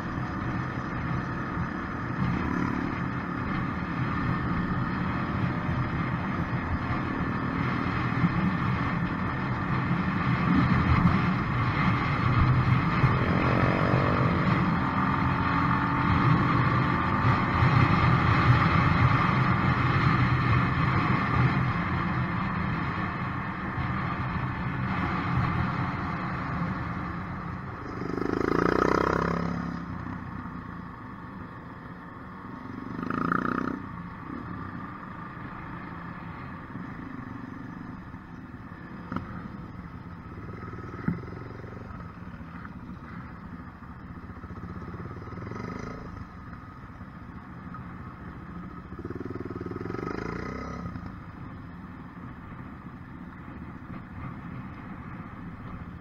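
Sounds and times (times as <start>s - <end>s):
motorcycle engine riding: 0.0s - 56.0s
other motorcycles nearby: 0.0s - 56.0s.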